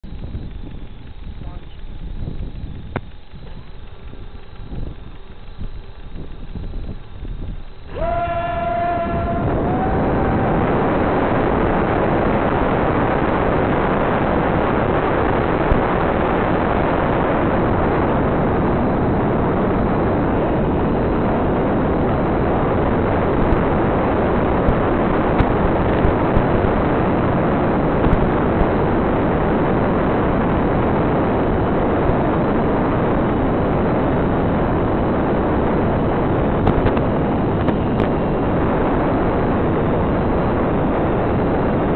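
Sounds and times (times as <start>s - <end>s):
propeller and wind rush: 0.0s - 41.9s.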